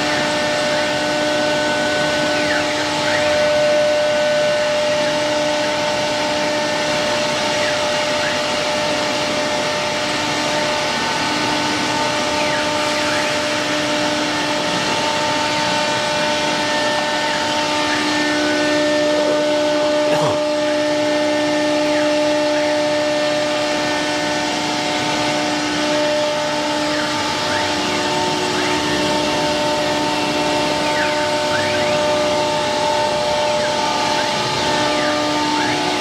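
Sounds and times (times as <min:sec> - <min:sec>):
cnc router spindle whining: 0:00.0 - 0:36.0.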